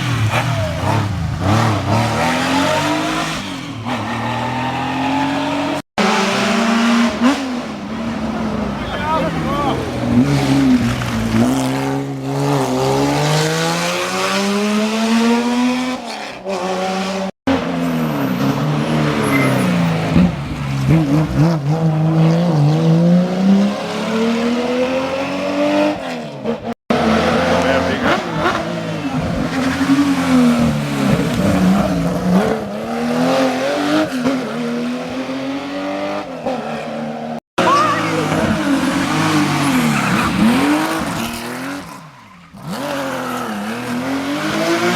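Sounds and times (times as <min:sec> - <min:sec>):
rally car engine accelerating: 0:00.0 - 0:44.9.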